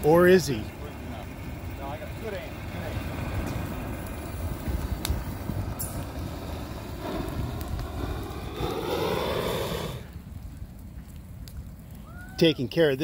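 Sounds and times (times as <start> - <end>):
wind rumble on microphone: 0.0 - 12.5
flamethrower flame rushing: 0.0 - 13.0.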